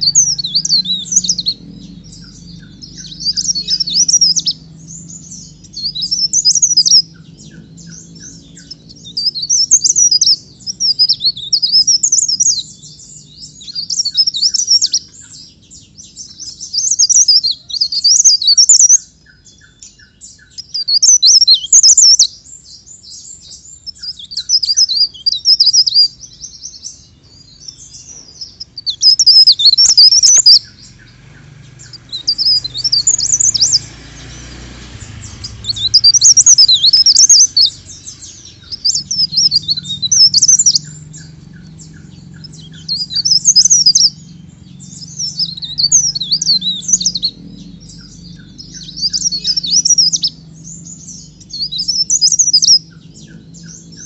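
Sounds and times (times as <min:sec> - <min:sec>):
songbird twittering: 0:00.0 - 0:54.0.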